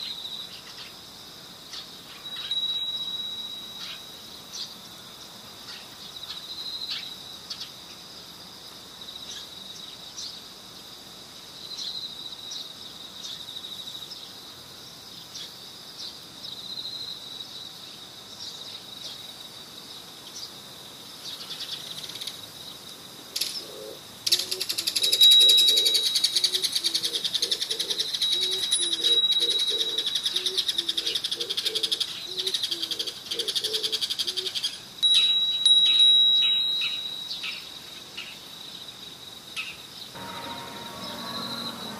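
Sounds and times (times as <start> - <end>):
crickets trilling: 0.0 - 40.2.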